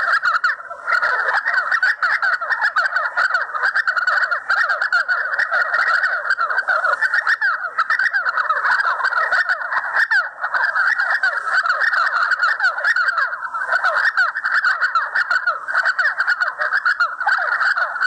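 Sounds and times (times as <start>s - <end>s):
chorus of animals calling: 0.0s - 18.0s.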